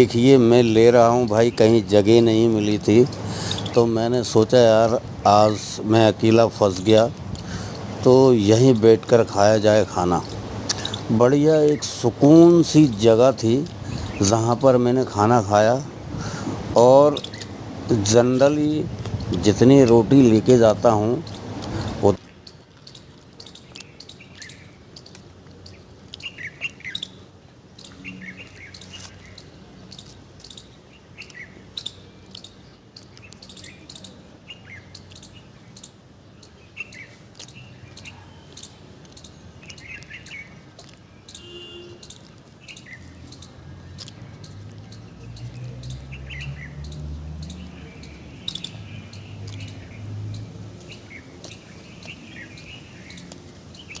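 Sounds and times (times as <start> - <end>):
forest birds chirping: 0.0 - 54.0.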